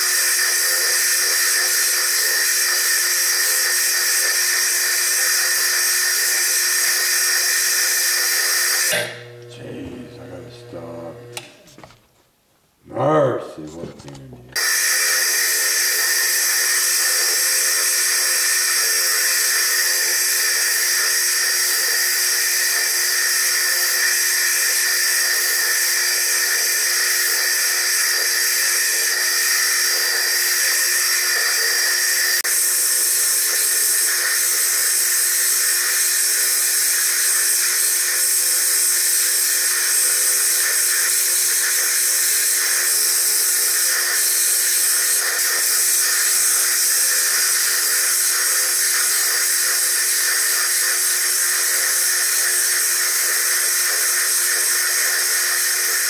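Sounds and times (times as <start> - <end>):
lathe whine and stone grinding: 0.0 - 12.0, 13.7 - 56.0.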